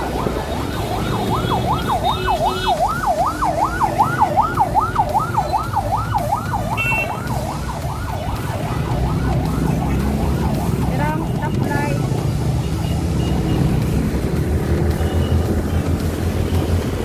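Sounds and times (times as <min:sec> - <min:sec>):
electronic siren yelping: 0:00.0 - 0:14.1.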